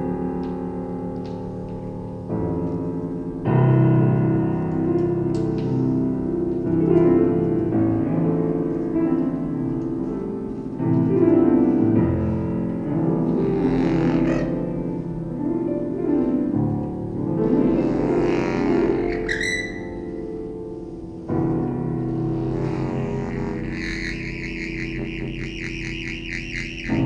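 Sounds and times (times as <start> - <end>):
piano playing slow chords: 0.0 - 27.0.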